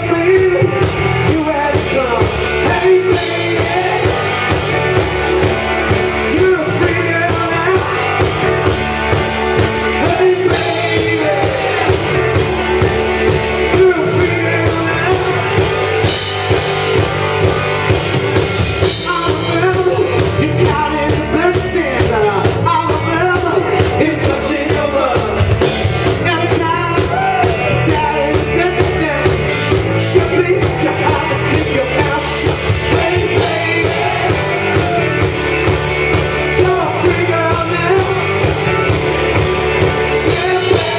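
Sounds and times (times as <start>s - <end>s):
lead singer: 0.0s - 40.9s
rock band playing live: 0.0s - 40.9s.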